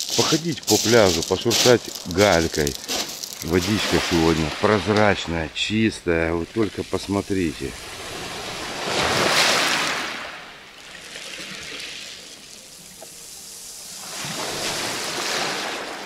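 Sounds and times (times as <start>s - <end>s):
small waves on pebble beach: 0.0s - 5.6s, 6.6s - 16.0s
water hissing over shingle: 0.0s - 10.2s, 11.0s - 15.8s.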